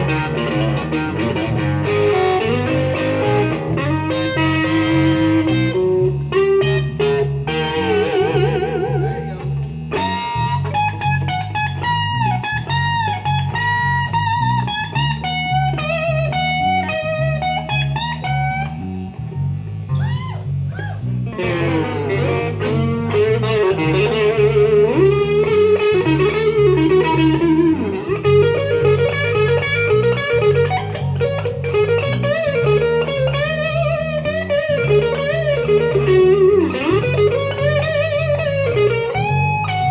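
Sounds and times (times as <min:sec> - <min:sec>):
electric bass riff: 0:00.0 - 0:39.9
electric guitar lead: 0:00.0 - 0:39.9.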